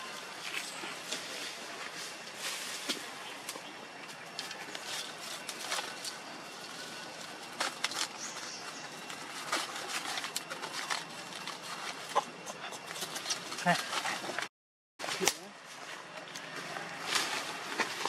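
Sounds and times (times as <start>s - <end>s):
dry leaves crackling and rustling: 0.0s - 12.2s, 15.0s - 18.0s.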